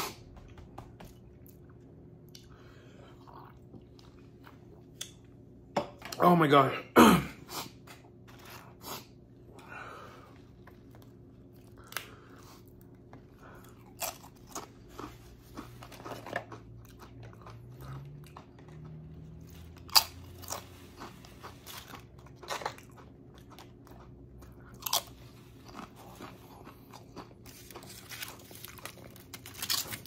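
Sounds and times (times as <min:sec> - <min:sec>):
chewing and crunching chips: 0:00.0 - 0:05.4, 0:07.7 - 0:30.0.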